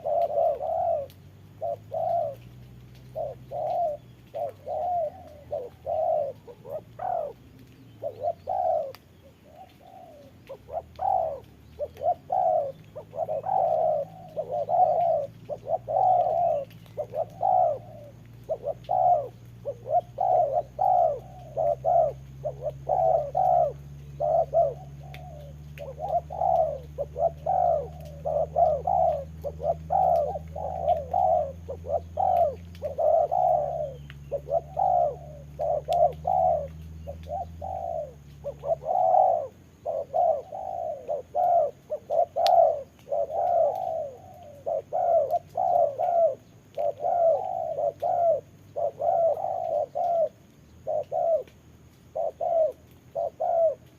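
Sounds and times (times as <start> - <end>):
doves cooing: 0.0 - 53.9
low steady hum: 0.0 - 53.9.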